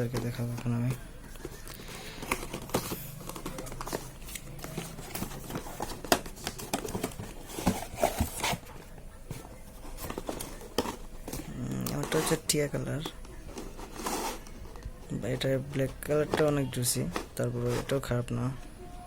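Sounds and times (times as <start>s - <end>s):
packaging rustling and crinkling: 0.0s - 18.1s.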